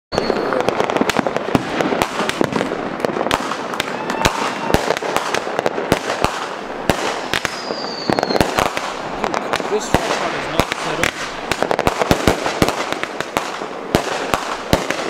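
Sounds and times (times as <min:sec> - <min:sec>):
fireworks bangs and pops: 0:00.1 - 0:15.0.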